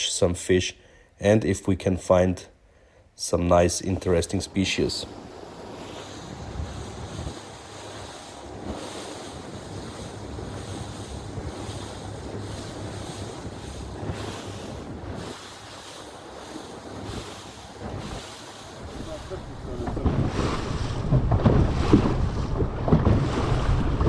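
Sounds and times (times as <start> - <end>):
water rushing past hull: 3.7 - 24.0
boat engine hum: 3.8 - 24.0
wind buffeting microphone: 4.0 - 24.0.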